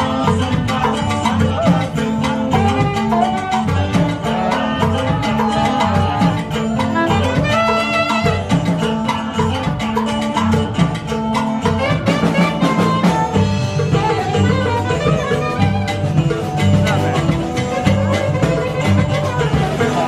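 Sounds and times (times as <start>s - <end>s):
live band playing latin dance music: 0.0s - 20.0s.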